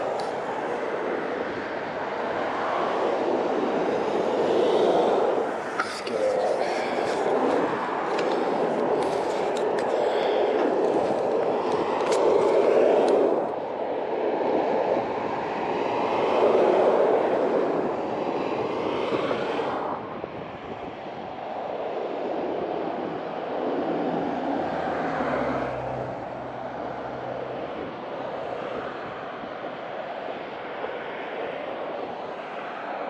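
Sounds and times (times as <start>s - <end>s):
bicycle road and wind noise: 0.0s - 33.0s.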